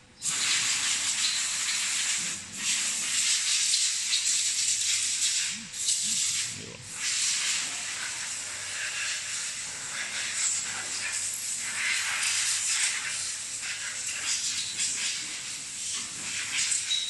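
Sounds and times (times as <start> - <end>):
steady hissing noise: 0.0 - 17.0.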